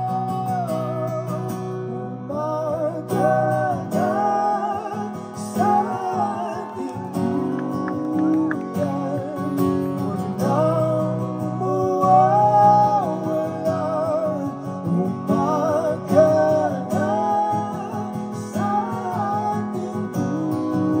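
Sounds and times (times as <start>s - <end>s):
strummed acoustic guitar: 0.0s - 21.0s
two men singing: 0.0s - 21.0s.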